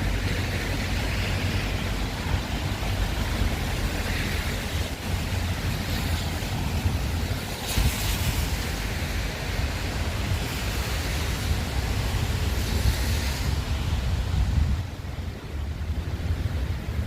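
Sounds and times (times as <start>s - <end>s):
rain on wet road: 0.0s - 17.0s
wind buffeting microphone: 0.0s - 17.0s.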